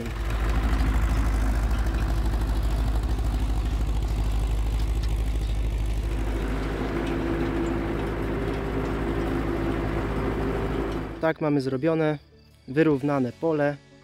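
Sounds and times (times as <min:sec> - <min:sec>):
tractor engine rumbling: 0:00.0 - 0:11.3.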